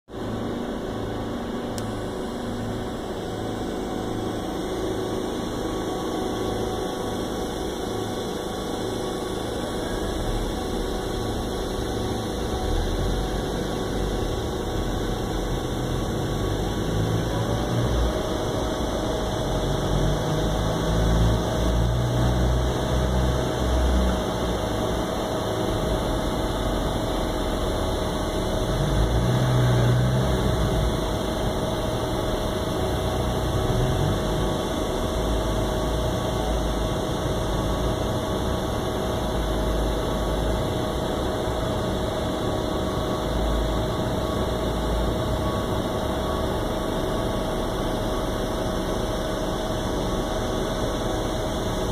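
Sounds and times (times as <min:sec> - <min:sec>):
steady tone: 0:00.1 - 0:51.9
welding machine hum: 0:00.2 - 0:51.9.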